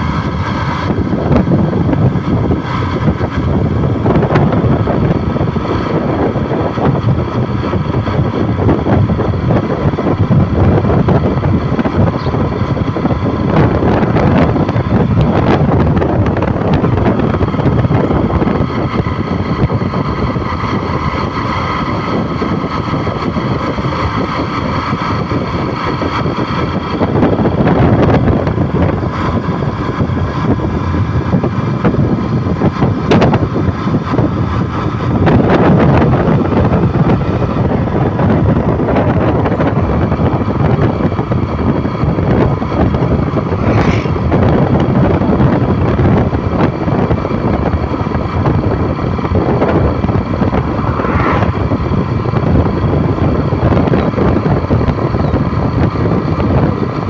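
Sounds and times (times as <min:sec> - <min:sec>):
vehicle running: 0:00.0 - 0:57.0
wind on microphone: 0:00.0 - 0:57.0.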